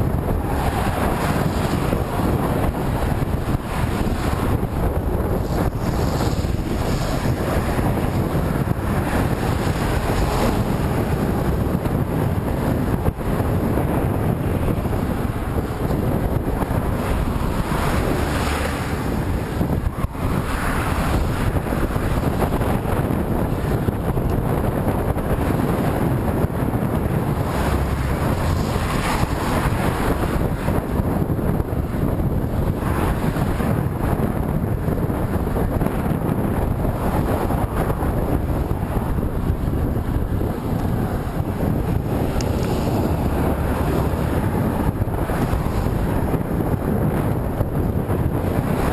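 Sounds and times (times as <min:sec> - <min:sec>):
wind blowing over microphone: 0:00.0 - 0:48.9.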